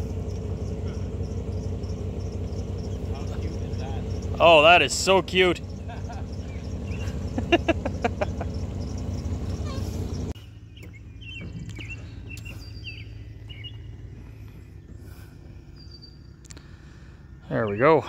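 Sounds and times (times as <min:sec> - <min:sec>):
birds chirping: 0:00.0 - 0:18.0
outboard motor humming: 0:00.0 - 0:18.0.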